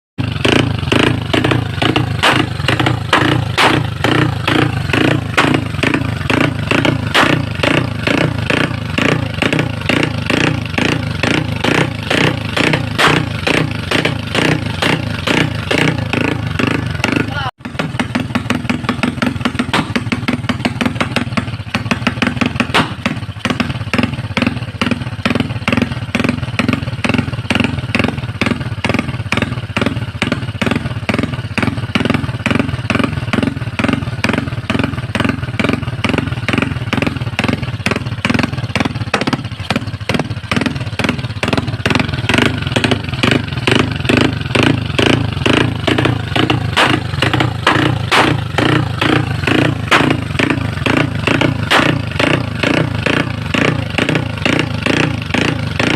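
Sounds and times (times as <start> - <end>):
motorcycle engine idling: 0.2 - 55.9.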